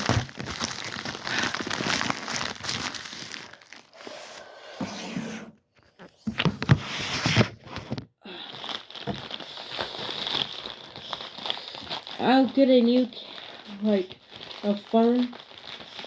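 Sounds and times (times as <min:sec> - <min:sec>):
packaging tearing and crinkling: 0:00.0 - 0:04.5, 0:06.0 - 0:16.0.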